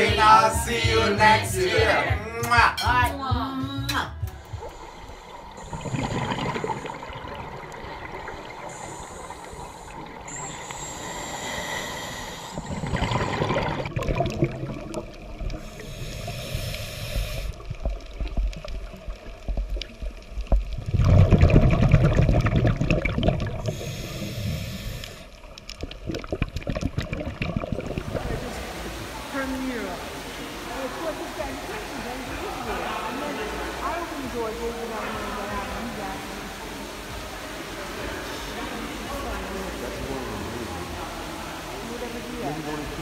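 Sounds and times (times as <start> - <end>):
low underwater rumbling: 3.3 - 43.0
muffled underwater rushing and bubbling: 4.3 - 43.0.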